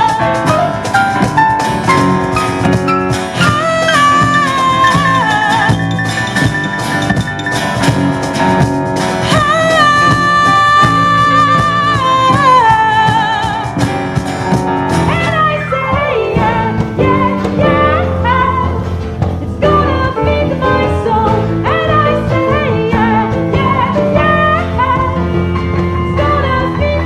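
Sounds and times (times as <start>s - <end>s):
drums and percussion: 0.0s - 27.0s.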